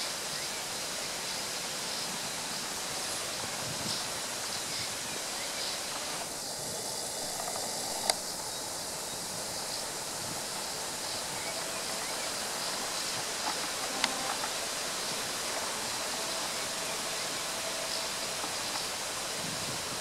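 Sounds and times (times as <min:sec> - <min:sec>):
rushing outdoor ambience: 0:00.0 - 0:20.0.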